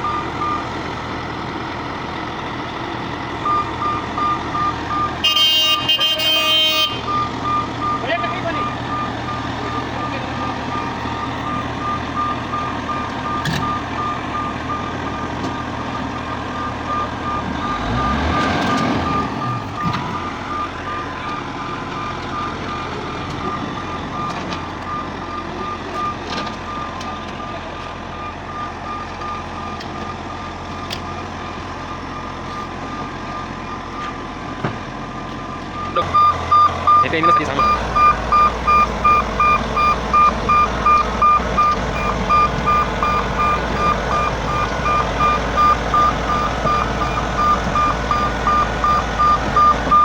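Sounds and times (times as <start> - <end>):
reversing alarm beeping: 0.0 - 0.7, 3.4 - 34.2, 35.5 - 50.0
heavy diesel machinery running: 0.0 - 50.0.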